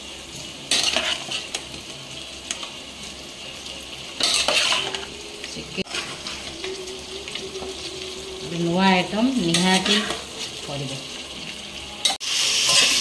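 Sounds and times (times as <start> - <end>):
chicken sizzling in hot oil: 0.0 - 13.0
steady frying sizzle: 0.0 - 13.0.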